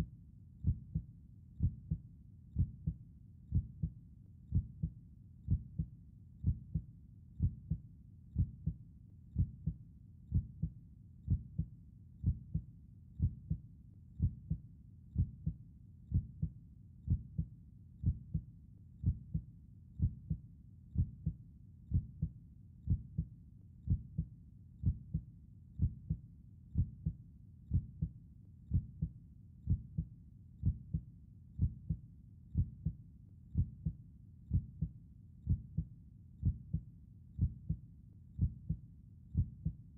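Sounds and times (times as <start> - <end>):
human heartbeat: 0.6 - 2.0, 2.6 - 7.8, 8.4 - 13.6, 14.2 - 14.6, 15.2 - 20.4, 21.0 - 23.3, 23.9 - 32.0, 32.6 - 37.8, 38.4 - 39.8.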